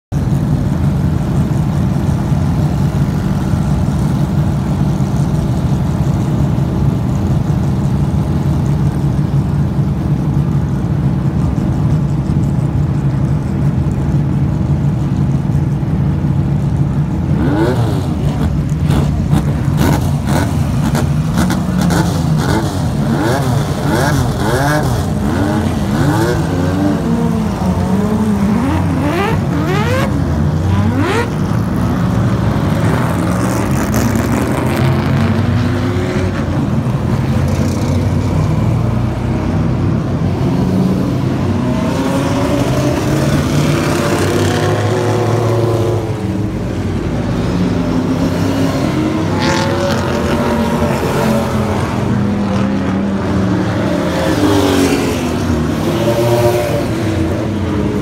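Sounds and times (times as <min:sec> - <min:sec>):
race car engines droning: 0:00.1 - 0:58.0
race car engines revving: 0:00.1 - 0:58.0.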